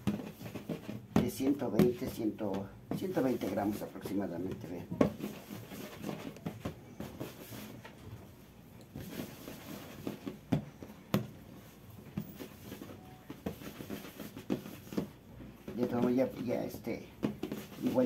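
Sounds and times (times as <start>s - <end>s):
dough rubbing and patting on wood: 0.0s - 18.0s.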